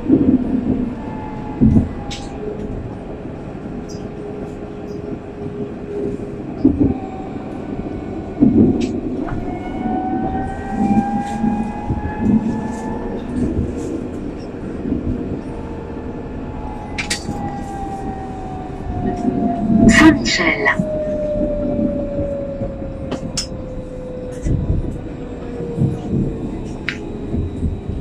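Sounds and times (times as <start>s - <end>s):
tram rumble and motor whine: 0.0s - 28.0s.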